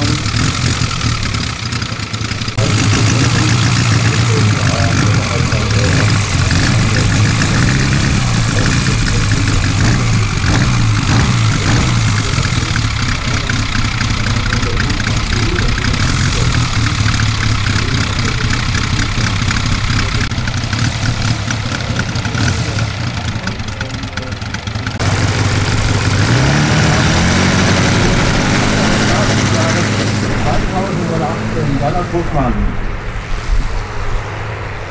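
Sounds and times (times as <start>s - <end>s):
model plane engine running: 0.0s - 32.3s.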